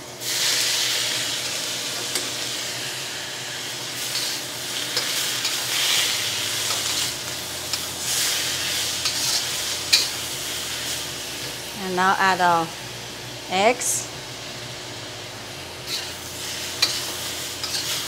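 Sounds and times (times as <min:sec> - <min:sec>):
noodles sizzling in hot oil: 0:00.0 - 0:12.2, 0:14.1 - 0:18.0.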